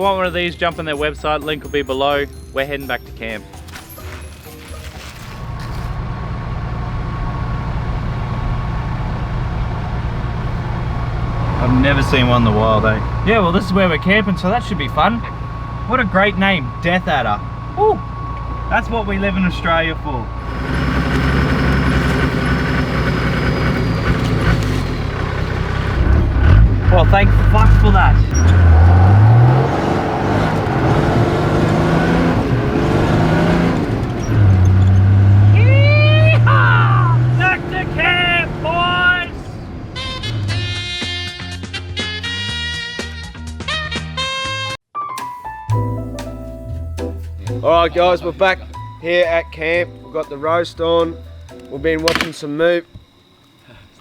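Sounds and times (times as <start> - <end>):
vehicle engine rumbling: 3.4 - 42.0, 45.9 - 54.0.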